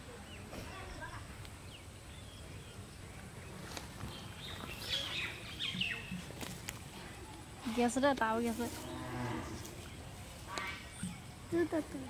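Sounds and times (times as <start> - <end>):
birds chirping: 0.0 - 12.0
faint outdoor background noise: 0.0 - 12.0.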